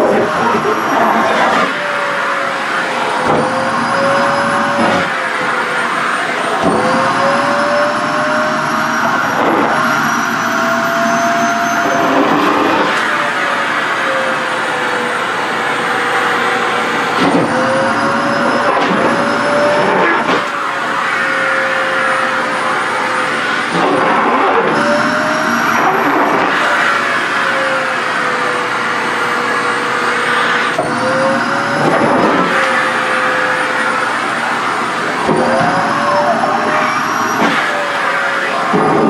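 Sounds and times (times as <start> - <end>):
stick vacuum cleaner whine: 0.0 - 39.0.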